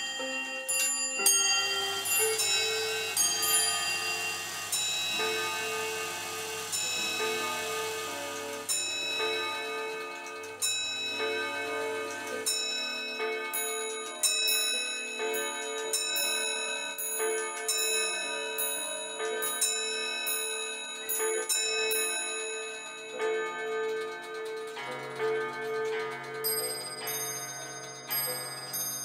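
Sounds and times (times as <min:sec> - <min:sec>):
bell-like chiming melody: 0:00.0 - 0:29.0
held tones: 0:00.0 - 0:29.0.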